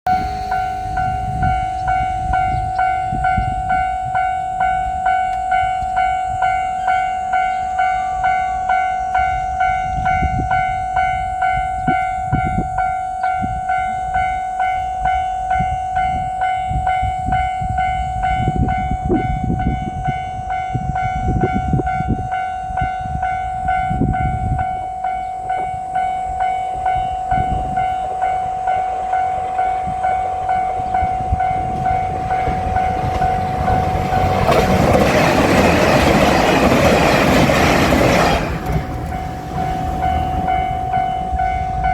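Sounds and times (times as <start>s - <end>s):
passing train rumble: 0.0s - 41.9s
railway crossing alarm bell: 0.0s - 41.9s.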